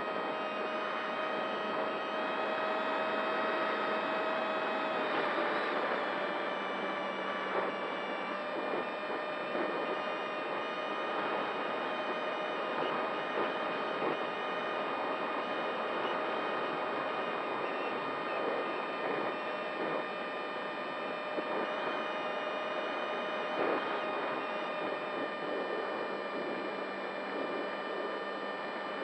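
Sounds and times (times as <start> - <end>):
high-pitched whine: 0.0 - 29.0.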